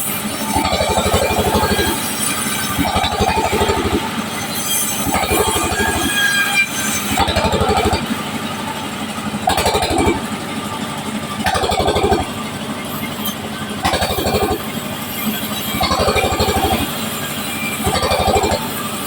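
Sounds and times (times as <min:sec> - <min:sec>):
power saw cutting wood: 0:00.0 - 0:19.0.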